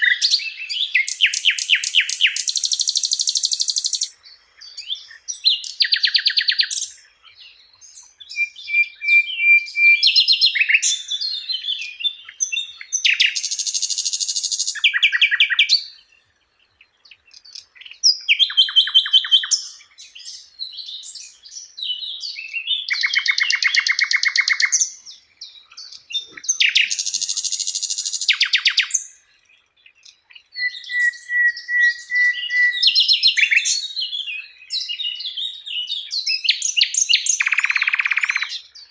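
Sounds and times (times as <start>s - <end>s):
flycatcher singing trills and whistles: 0.0s - 38.9s.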